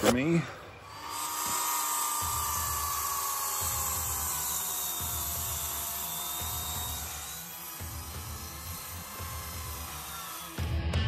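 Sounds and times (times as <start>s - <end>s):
circular saw cutting wood: 0.0s - 11.0s.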